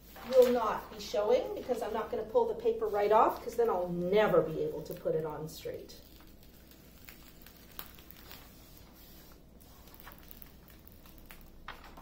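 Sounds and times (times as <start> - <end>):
paper peeling and rustling: 0.0 - 12.0.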